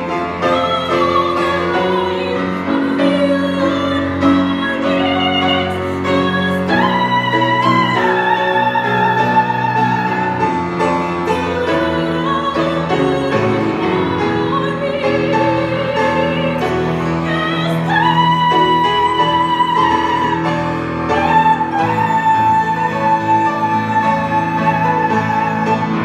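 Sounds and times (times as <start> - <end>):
instrumental accompaniment: 0.0 - 26.0
woman singing operatically: 0.0 - 26.0.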